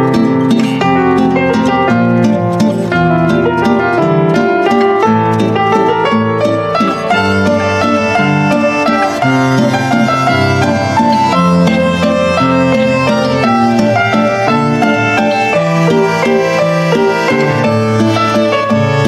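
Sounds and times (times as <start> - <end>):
held bass notes: 0.0 - 19.0
plucked string notes: 0.0 - 19.0.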